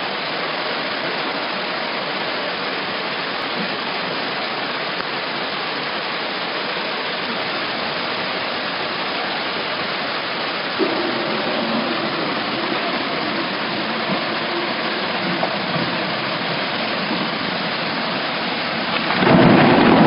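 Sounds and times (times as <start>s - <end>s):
floodwater rushing: 0.0s - 20.0s
heavy rain: 0.0s - 20.0s.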